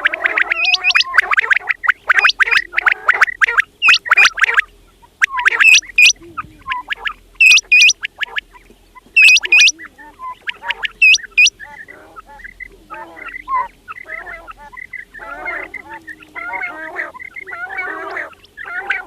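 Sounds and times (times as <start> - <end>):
quails calling: 0.0 - 19.0.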